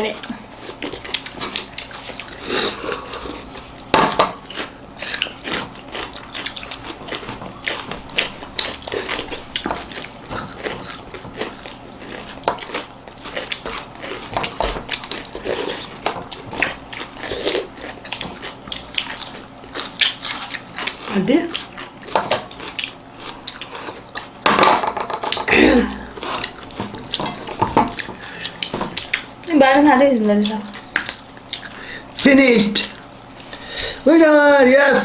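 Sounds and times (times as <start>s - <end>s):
biting and chewing: 0.2s - 24.4s, 25.2s - 29.5s, 30.4s - 31.9s.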